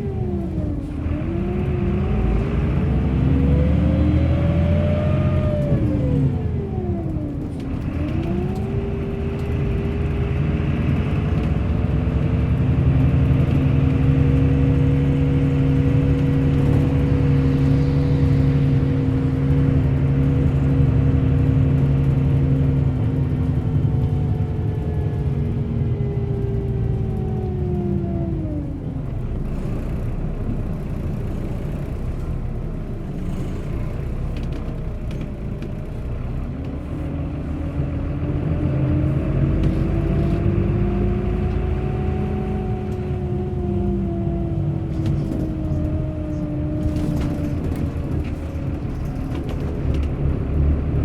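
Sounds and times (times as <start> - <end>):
bus engine running: 0.0 - 51.0.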